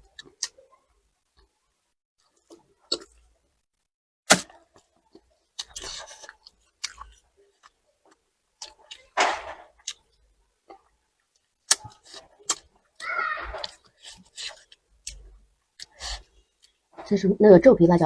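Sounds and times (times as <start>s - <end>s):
chewing and crunching food: 0.0s - 1.6s, 2.2s - 3.6s, 4.3s - 17.2s.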